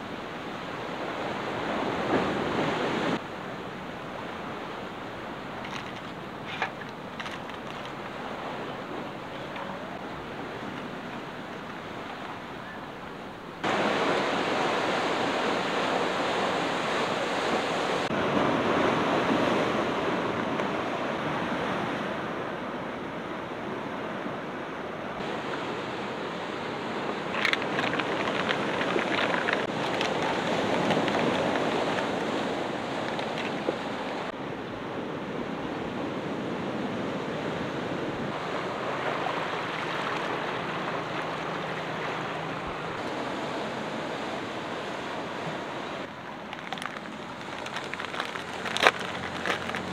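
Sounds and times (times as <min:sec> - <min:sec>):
surf washing against rocks: 0:00.0 - 0:22.3, 0:25.2 - 0:34.4, 0:36.0 - 0:49.9
wind: 0:00.0 - 0:49.9.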